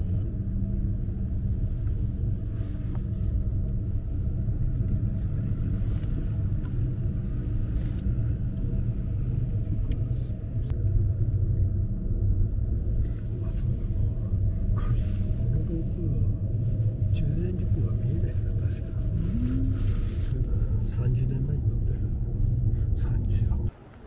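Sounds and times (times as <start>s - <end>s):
gondola cabin rumble: 0.0s - 24.0s.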